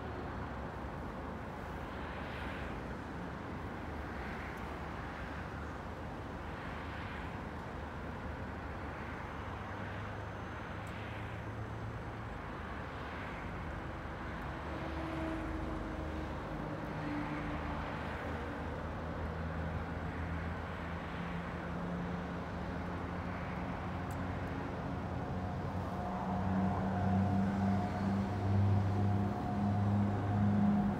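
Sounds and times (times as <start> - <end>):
street traffic: 0.0 - 30.9.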